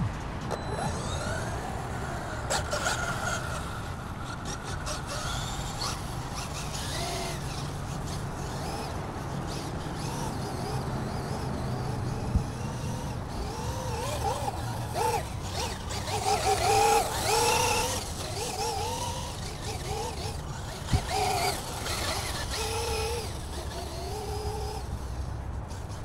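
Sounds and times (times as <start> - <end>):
toy truck electric motor whining: 0.4 - 26.0.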